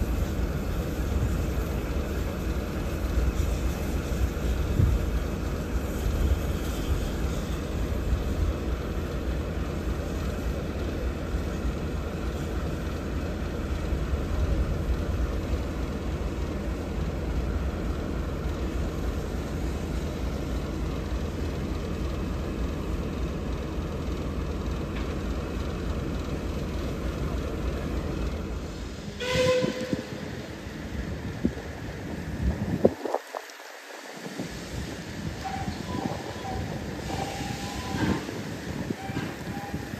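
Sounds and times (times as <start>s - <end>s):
steam locomotive rumbling: 0.0s - 39.9s.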